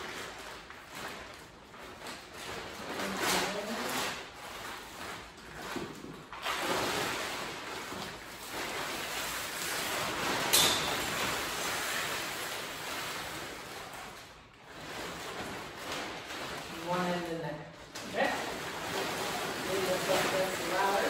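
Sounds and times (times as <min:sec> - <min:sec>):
plastic tarp rustling and crinkling: 0:00.0 - 0:21.0.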